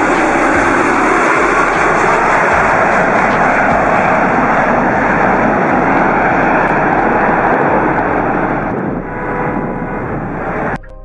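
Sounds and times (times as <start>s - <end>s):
jet engines roaring at takeoff: 0.0s - 10.8s.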